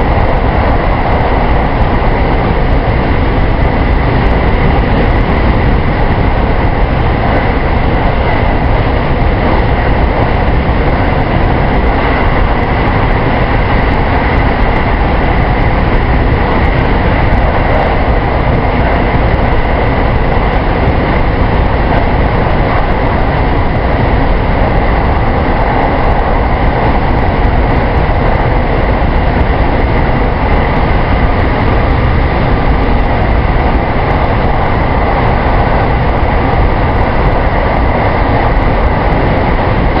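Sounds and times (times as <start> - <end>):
wheel and rail rumble: 0.0 - 40.0.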